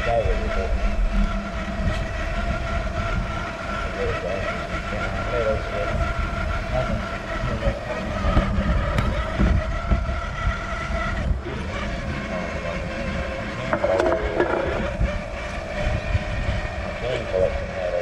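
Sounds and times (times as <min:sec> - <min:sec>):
electric motor whining: 0:00.0 - 0:18.0
low chassis rumble: 0:00.0 - 0:18.0.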